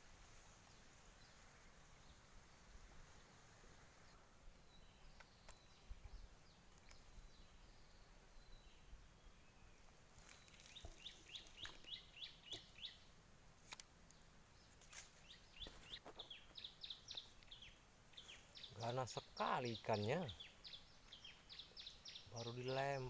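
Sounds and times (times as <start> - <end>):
bird chirping: 0.6 - 13.1, 13.7 - 23.0.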